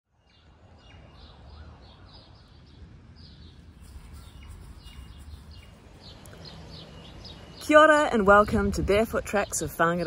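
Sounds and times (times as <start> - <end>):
birds chirping: 0.1 - 10.0.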